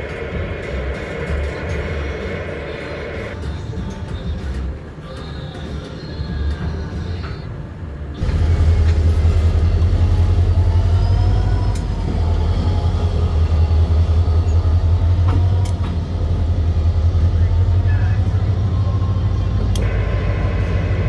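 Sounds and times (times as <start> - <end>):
diesel locomotive engine rumbling: 0.0 - 21.0.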